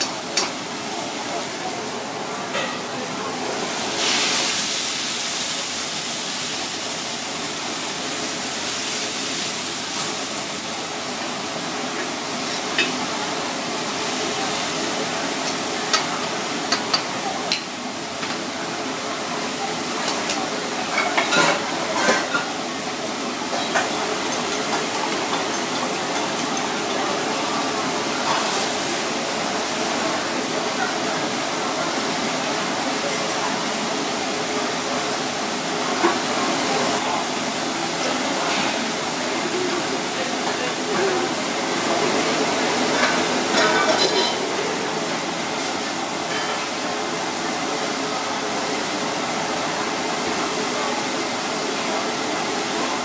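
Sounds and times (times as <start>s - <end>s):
food sizzling in a wok: 0.0s - 53.0s.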